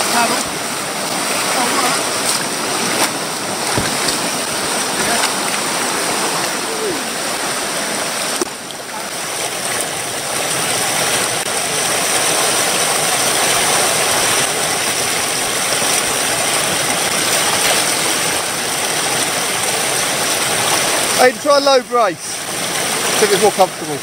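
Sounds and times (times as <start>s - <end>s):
whitewater rushing: 0.0s - 24.0s.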